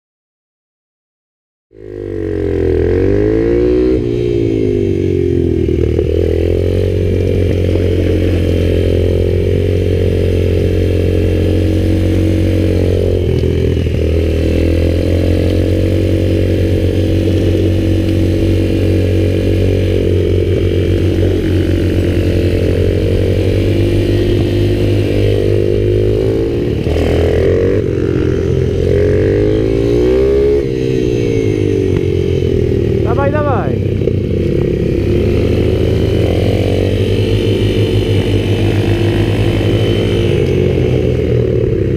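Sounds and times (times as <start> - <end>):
mini bike engine revving: 1.8 - 41.9.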